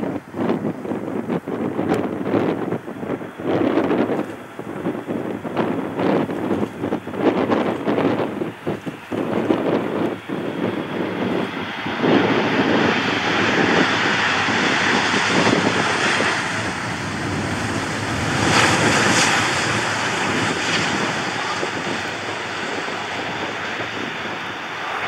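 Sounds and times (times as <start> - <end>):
airliner engine noise: 0.0 - 25.0
wind buffeting microphone: 0.0 - 25.0.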